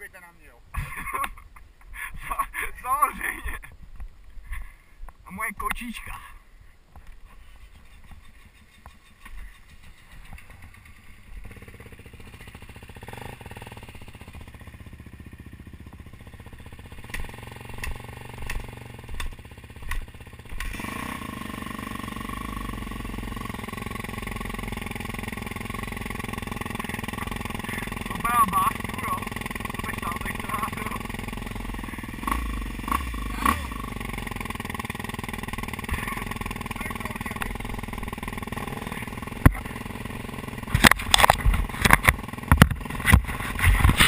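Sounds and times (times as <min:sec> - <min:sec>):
dirt bike engine: 0:00.7 - 0:44.0.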